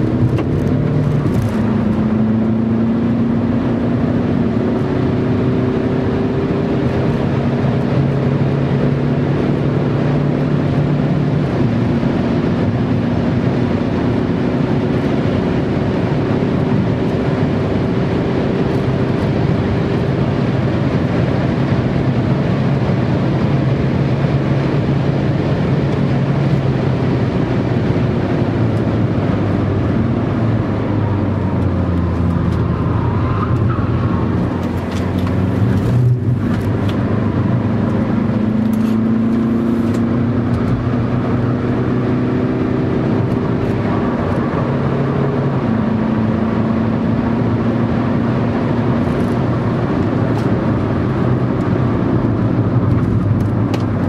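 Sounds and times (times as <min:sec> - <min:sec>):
car engine at speed: 0:00.0 - 0:54.0
road noise: 0:00.0 - 0:54.0.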